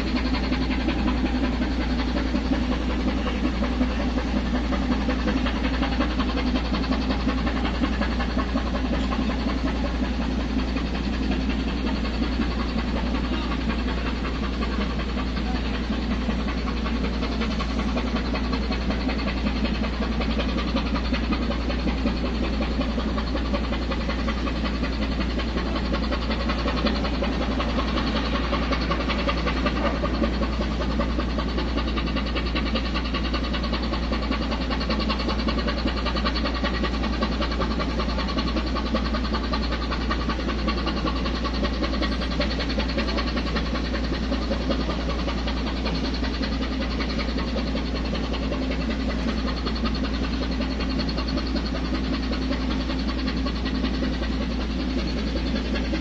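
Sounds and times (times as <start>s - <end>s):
large machinery running: 0.0s - 56.0s.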